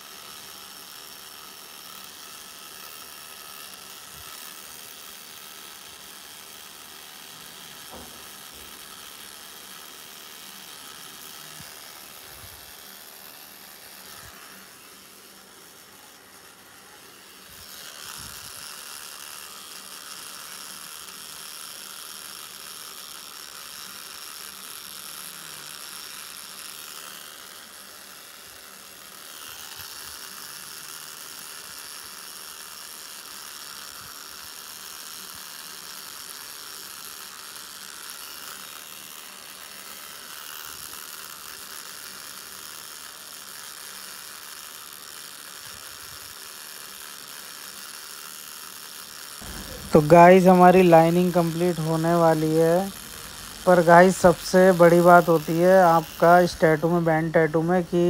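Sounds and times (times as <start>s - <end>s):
tattoo machine buzzing: 0.0s - 58.0s.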